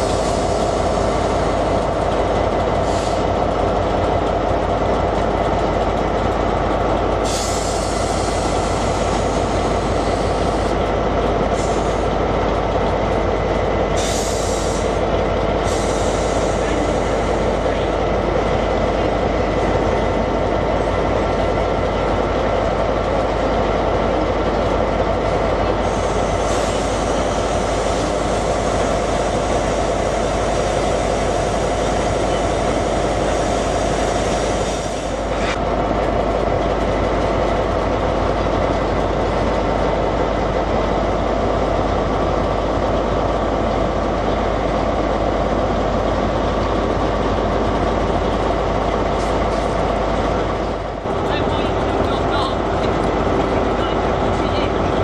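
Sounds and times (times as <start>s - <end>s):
diesel locomotive engines idling: 0.0s - 55.0s.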